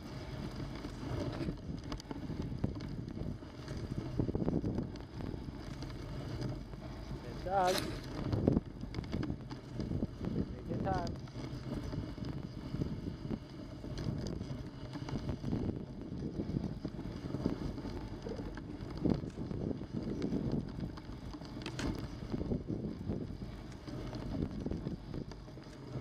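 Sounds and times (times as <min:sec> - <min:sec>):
sled runners scraping through snow: 0:00.0 - 0:26.0.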